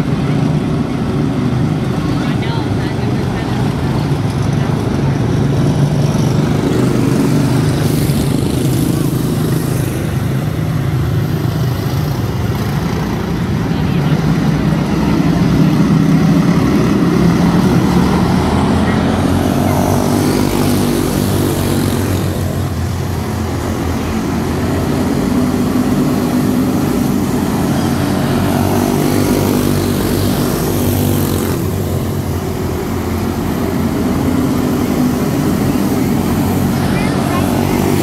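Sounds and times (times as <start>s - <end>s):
buzz of small race car engines: 0.0s - 38.0s.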